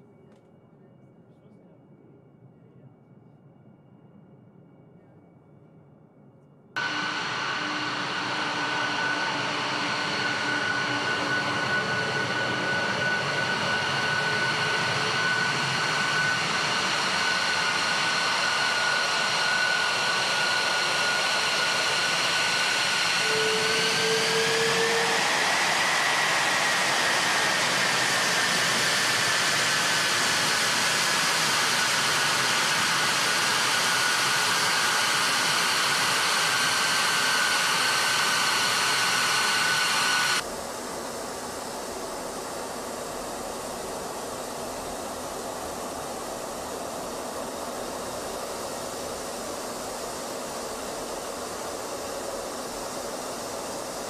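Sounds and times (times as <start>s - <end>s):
jet engines rushing and whining: 6.8s - 54.0s.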